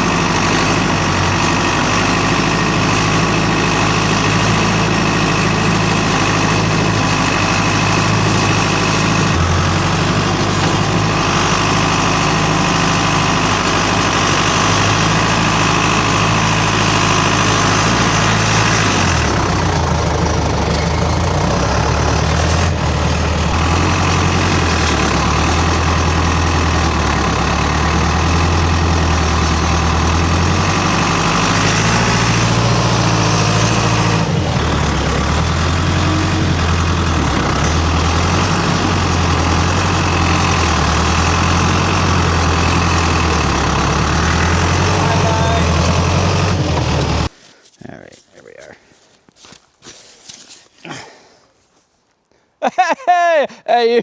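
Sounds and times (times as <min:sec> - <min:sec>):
diesel engine under load: 0:00.0 - 0:47.5.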